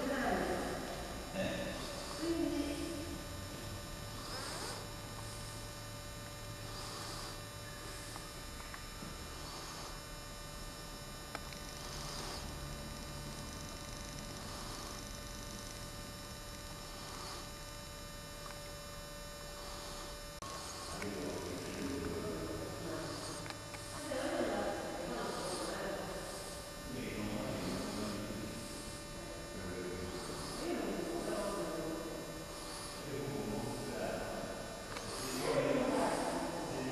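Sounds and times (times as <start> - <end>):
electrical hum with held tone: 0.0 - 36.9.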